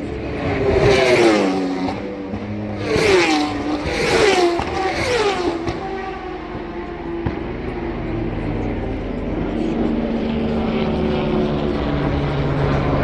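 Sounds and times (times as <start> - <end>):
racing motorcycles passing: 0.0 - 13.0.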